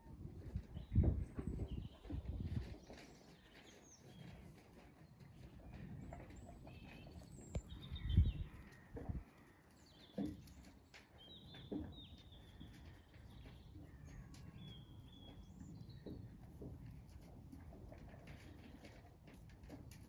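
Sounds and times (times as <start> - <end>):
small birds singing: 0.2 - 20.0.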